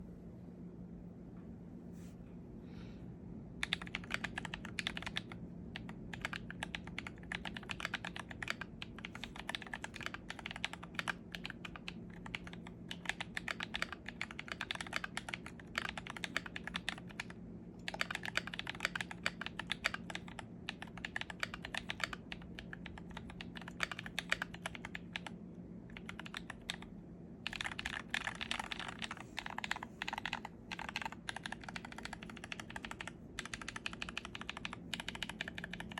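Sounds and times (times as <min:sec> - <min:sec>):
steady low hum: 0:00.0 - 0:35.9
typing on mechanical keyboard: 0:03.6 - 0:35.9.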